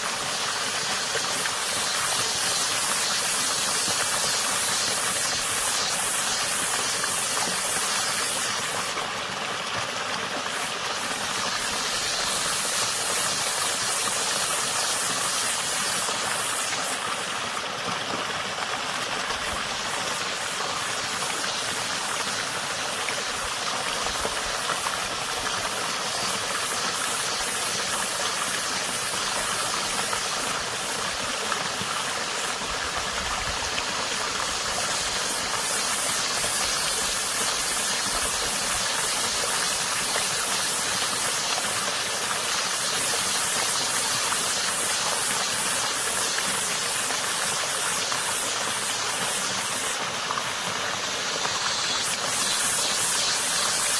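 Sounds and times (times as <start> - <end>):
water rushing over stones: 0.0 - 53.9.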